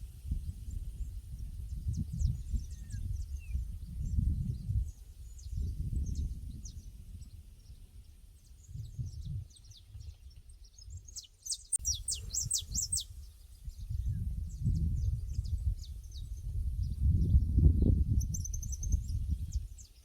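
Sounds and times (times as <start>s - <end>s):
low rumble in gusts: 0.0s - 10.1s, 11.9s - 19.8s
small birds chirping: 0.4s - 20.0s.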